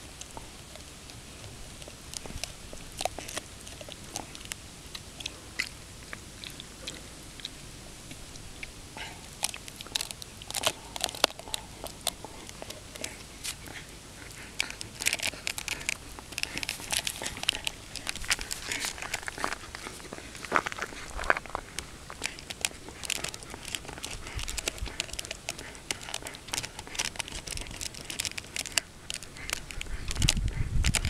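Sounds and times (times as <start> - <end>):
dog gnawing bone: 0.0 - 31.0.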